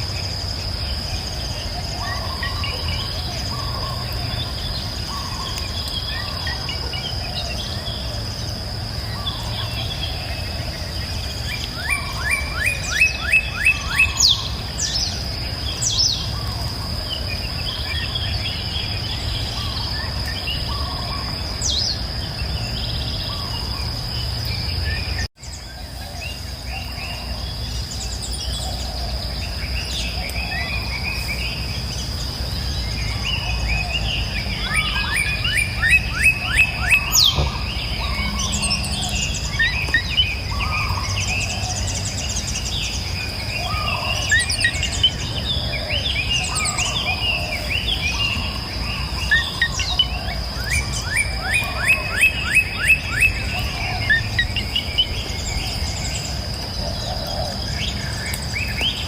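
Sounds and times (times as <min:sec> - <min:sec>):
high insect drone: 0:00.0 - 0:59.0
songbirds singing and calling: 0:00.0 - 0:59.0.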